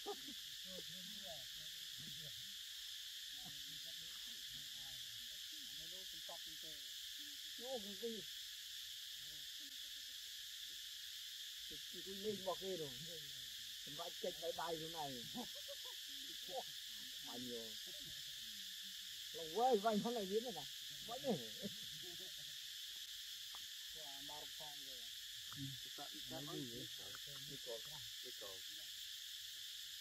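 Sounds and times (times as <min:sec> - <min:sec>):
forest insects droning: 0:00.0 - 0:30.0.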